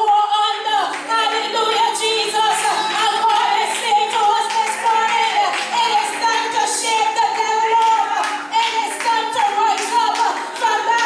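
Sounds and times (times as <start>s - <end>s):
church singing: 0.0s - 11.0s.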